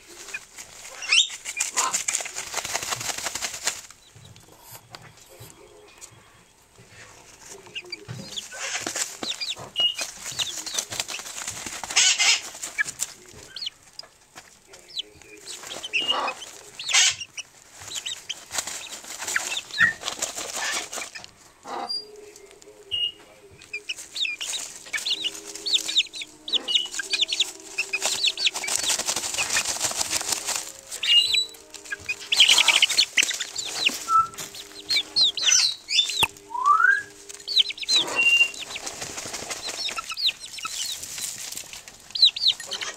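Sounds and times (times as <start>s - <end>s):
hens clucking: 0.0s - 42.9s
hens rustling and scratching: 0.0s - 42.9s.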